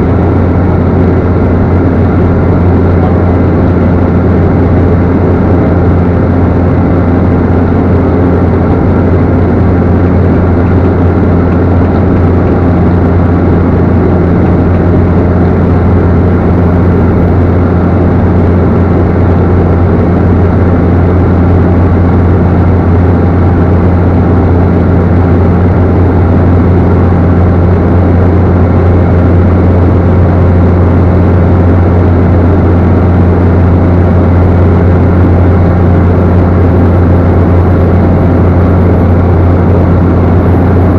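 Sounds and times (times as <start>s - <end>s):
turboprop engine drone: 0.0s - 40.9s.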